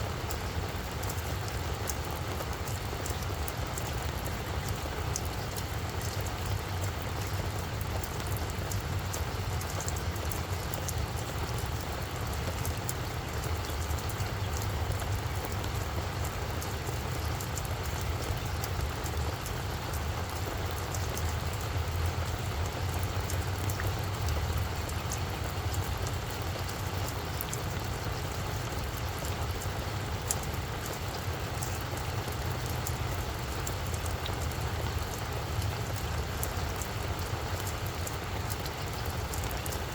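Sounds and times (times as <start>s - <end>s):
rain falling on flower bed: 0.0s - 39.9s.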